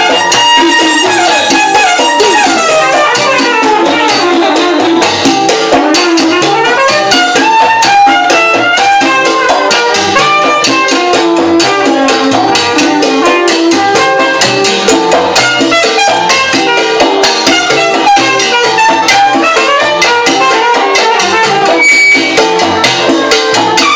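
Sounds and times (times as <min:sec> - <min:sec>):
salsa band playing: 0:00.0 - 0:23.9
trumpet line: 0:00.0 - 0:23.9.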